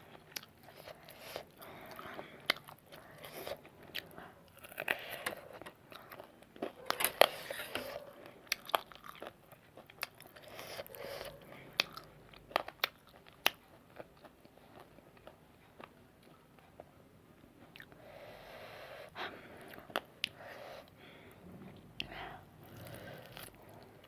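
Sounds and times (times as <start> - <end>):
person chewing noodles: 0.0 - 21.0.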